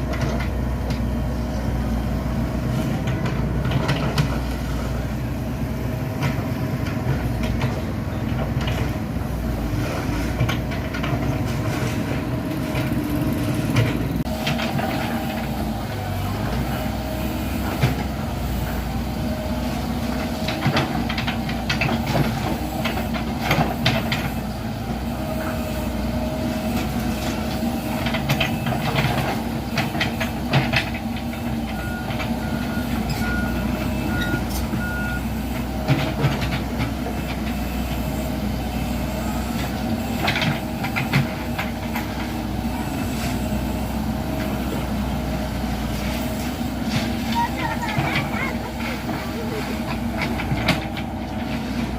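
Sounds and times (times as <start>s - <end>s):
excavator running: 0.0s - 51.9s.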